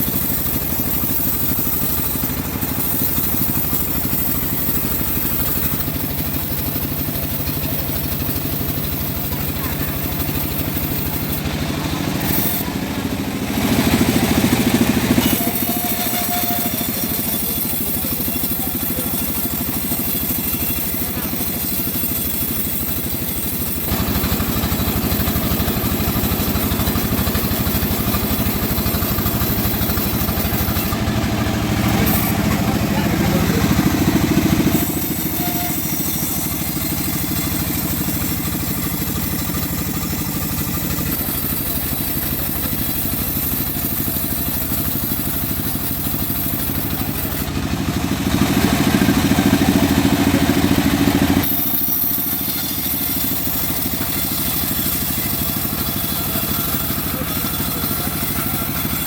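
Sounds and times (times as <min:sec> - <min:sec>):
engine-driven sawmill running: 0:00.0 - 0:59.0.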